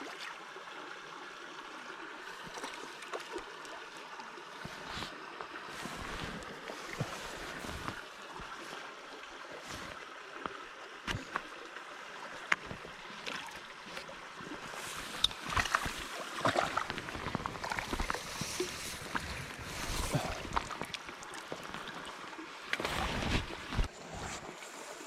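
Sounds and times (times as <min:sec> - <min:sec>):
water splashing and lapping: 0:00.0 - 0:25.0.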